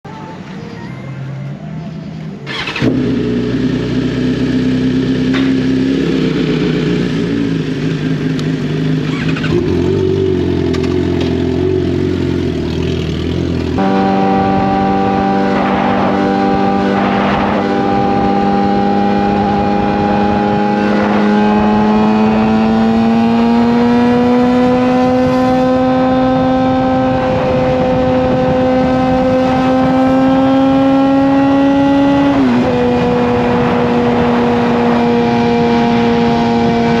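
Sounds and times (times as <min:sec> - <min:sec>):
motorcycle engine accelerating: 0:02.4 - 0:37.0.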